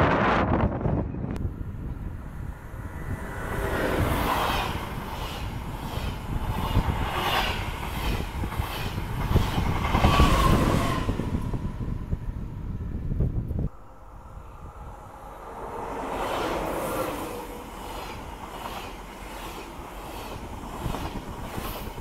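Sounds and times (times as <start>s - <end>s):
high-speed train rushing past: 0.0s - 22.0s.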